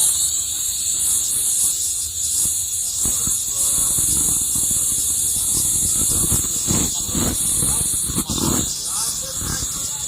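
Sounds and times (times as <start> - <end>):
high hiss: 0.0 - 10.0.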